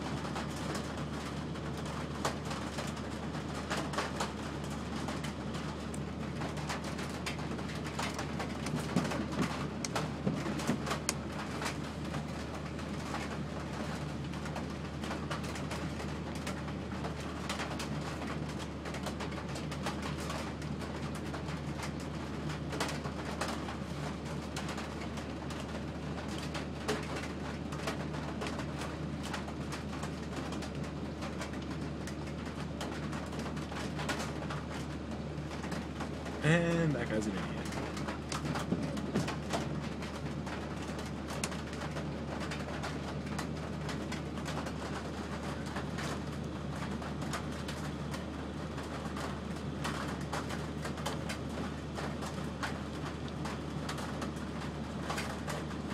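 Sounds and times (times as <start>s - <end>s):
heavy rain on vehicle windshield: 0.0s - 55.9s.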